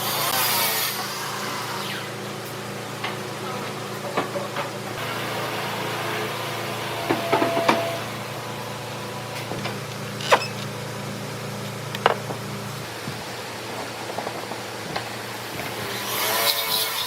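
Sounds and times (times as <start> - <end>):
low machine hum: 0.0 - 16.7.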